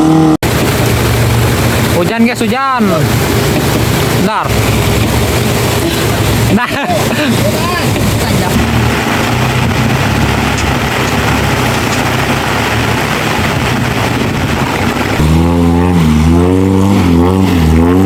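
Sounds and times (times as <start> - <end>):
car engine running: 0.0 - 18.0
steady rushing noise: 0.0 - 18.0.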